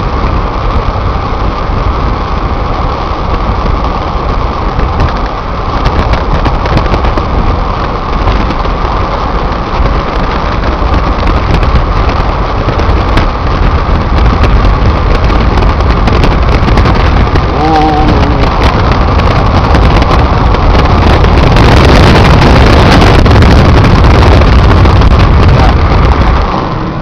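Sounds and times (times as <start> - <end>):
car road and wind noise: 0.0 - 27.0.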